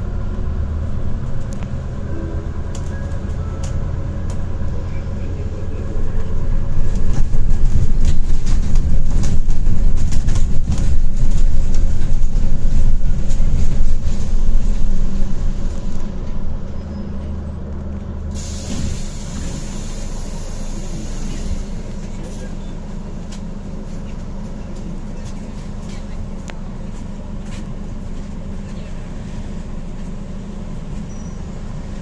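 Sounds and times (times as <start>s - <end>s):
bus engine drone: 0.0s - 32.0s.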